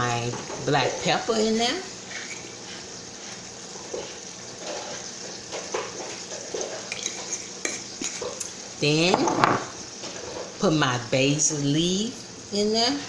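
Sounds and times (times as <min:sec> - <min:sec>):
chicken sizzling in a skillet: 0:00.0 - 0:13.0.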